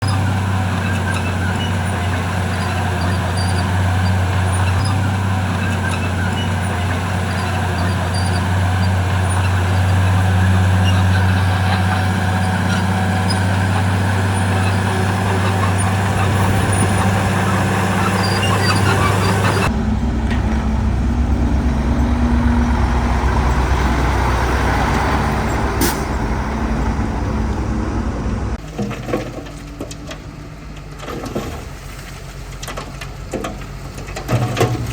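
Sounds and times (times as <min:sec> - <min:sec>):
heavy machinery diesel engines running: 0:00.0 - 0:34.9.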